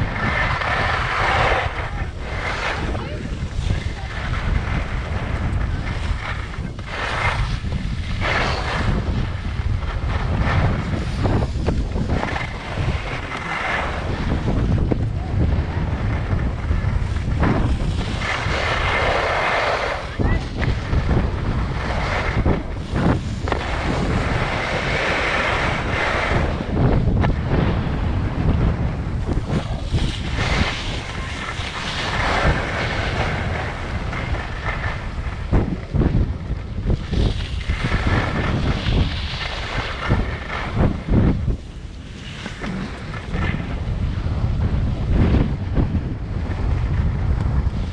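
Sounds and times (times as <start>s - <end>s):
skis scraping on packed snow: 0.0s - 47.9s
wind buffeting microphone: 0.0s - 47.9s.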